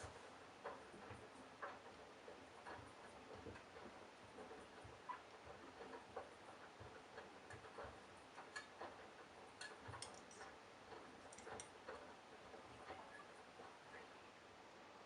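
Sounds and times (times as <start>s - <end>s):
faint ticks and clicks: 0.0s - 14.3s
washing machine running quietly: 0.0s - 15.0s.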